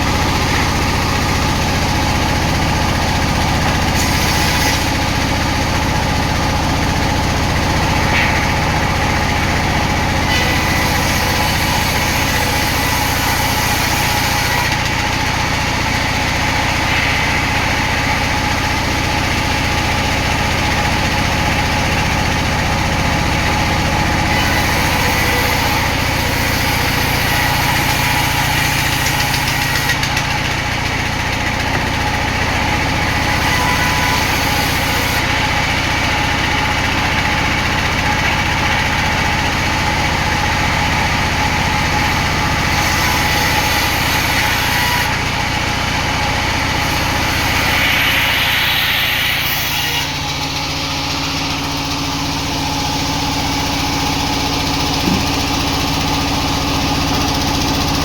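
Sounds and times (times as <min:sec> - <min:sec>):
sawmill machinery humming: 0:00.0 - 0:58.0.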